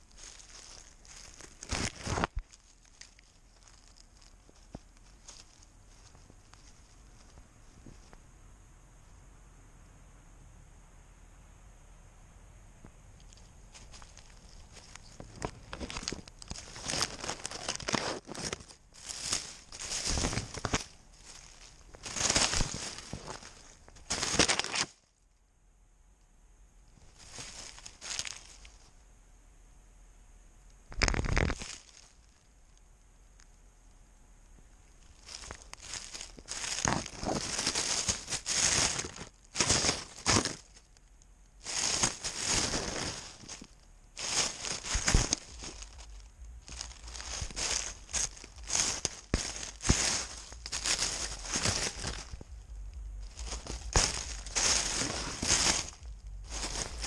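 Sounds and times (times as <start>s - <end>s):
rustling and crunching of dry ground: 0.0s - 9.1s, 12.8s - 25.4s, 26.8s - 29.0s, 30.9s - 33.6s, 34.5s - 57.0s.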